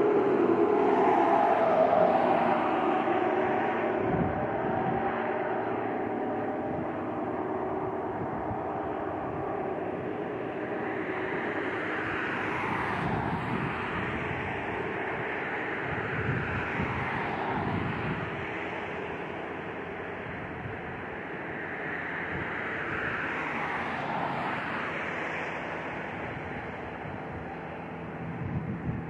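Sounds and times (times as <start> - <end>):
jet engines passing: 0.0 - 29.0.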